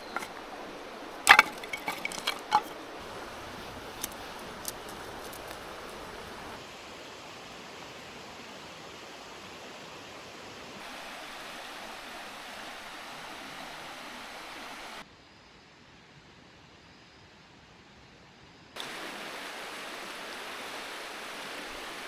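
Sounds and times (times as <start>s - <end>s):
river rushing: 0.0s - 15.0s, 18.8s - 22.0s.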